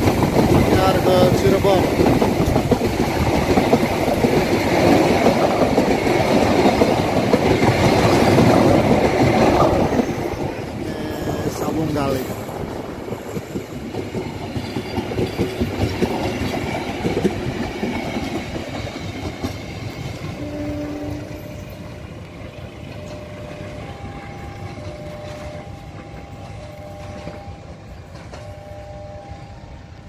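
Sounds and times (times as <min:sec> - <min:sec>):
train wheels clattering over rail joints: 0:00.0 - 0:10.8, 0:12.3 - 0:29.2.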